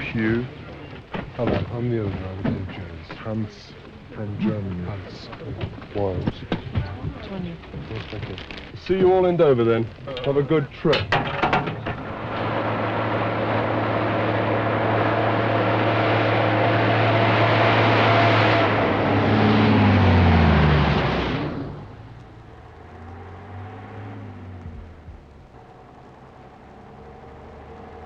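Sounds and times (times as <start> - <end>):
vehicle engine passing by: 0.0 - 10.6, 11.6 - 28.0.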